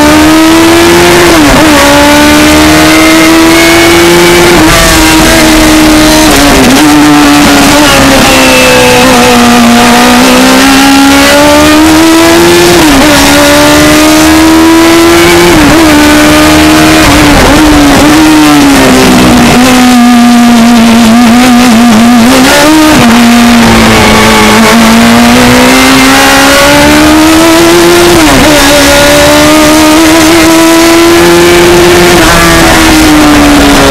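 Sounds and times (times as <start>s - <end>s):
racing car engine accelerating: 0.0s - 33.9s.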